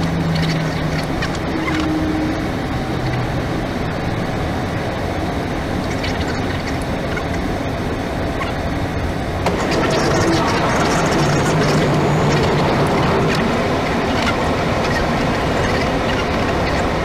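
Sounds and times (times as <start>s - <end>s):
airflow and engine noise: 0.0s - 17.0s.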